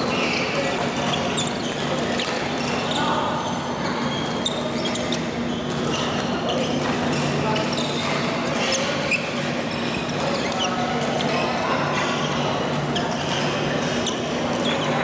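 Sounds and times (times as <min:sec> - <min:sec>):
shoes squeaking on court: 0:00.0 - 0:15.0.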